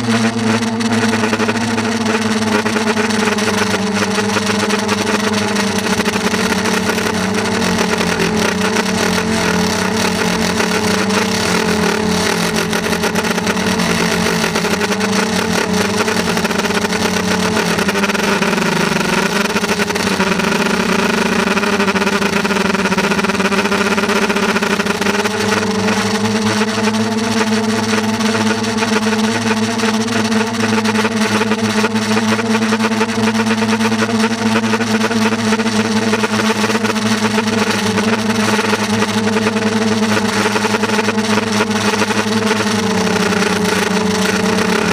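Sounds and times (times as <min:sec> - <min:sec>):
motor running: 0:00.0 - 0:44.9.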